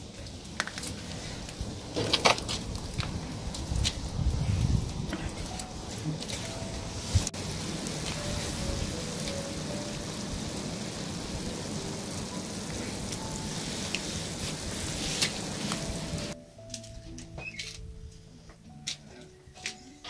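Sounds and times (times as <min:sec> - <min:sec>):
wood fire hissing and crackling: 0:00.0 - 0:20.0.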